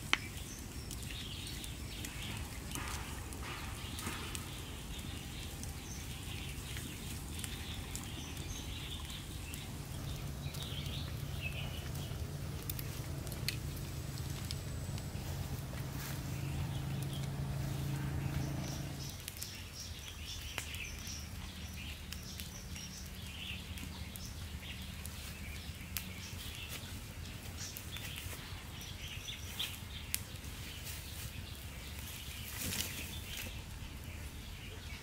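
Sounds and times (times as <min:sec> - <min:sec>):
birds chirping: 0:00.0 - 0:35.0
campfire crackling: 0:00.0 - 0:35.0.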